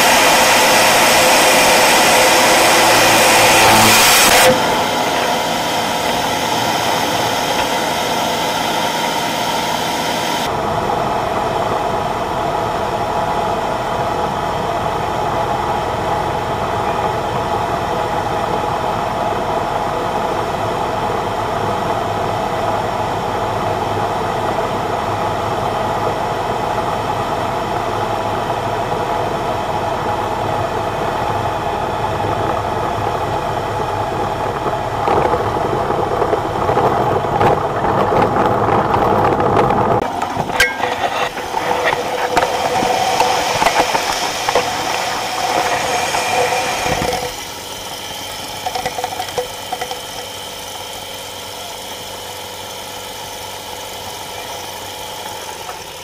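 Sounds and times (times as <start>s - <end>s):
propeller aircraft engine: 0.0s - 56.0s.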